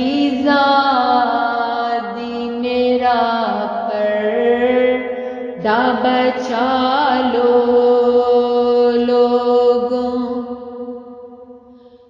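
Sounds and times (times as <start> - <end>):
woman chanting a lament: 0.0 - 10.8.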